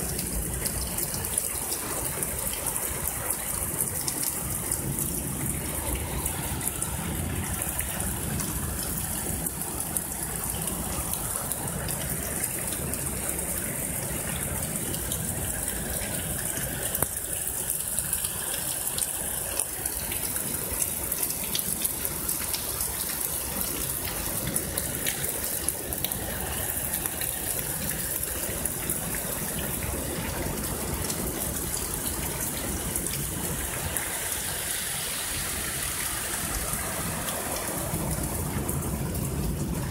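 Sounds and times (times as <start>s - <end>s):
raindrops ticking: 0.0s - 34.2s
heavy rain pouring: 0.0s - 39.9s
water gushing on street: 0.0s - 39.9s.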